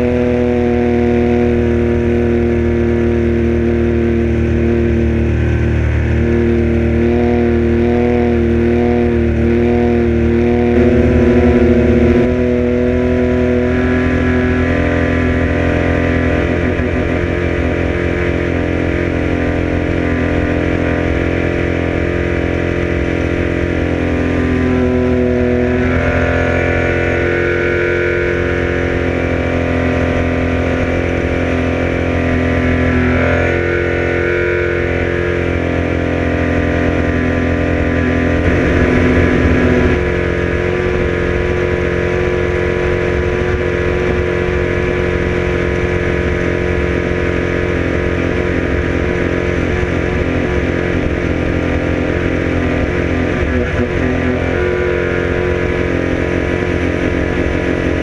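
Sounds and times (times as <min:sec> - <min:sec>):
outboard motor running hard: 0:00.0 - 0:58.0.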